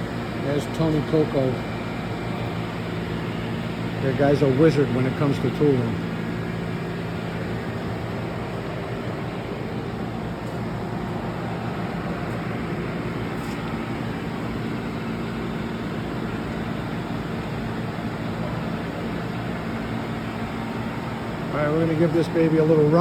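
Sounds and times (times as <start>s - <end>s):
machine-shop equipment humming: 0.0s - 23.0s.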